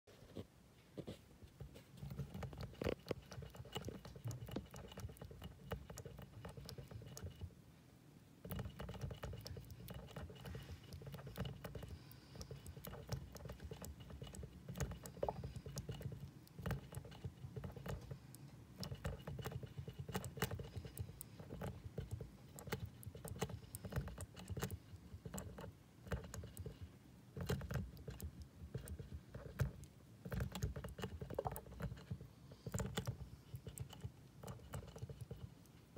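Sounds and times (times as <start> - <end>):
hamster licking water spout: 1.5 - 7.6, 8.4 - 35.9.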